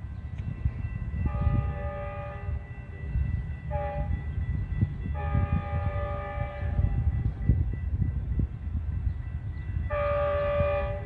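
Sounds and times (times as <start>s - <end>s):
multi-chime train horn: 0.0s - 11.0s.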